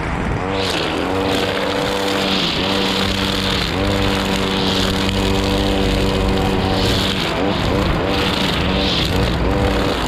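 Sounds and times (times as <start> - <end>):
brush cutter engine at high revs: 0.3 - 10.0.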